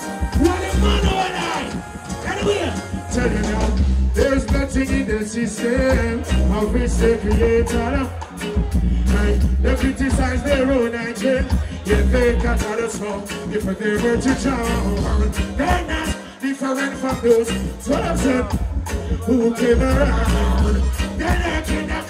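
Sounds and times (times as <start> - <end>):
reggae music with heavy bass: 0.0 - 22.0
man singing into a microphone: 0.2 - 22.0.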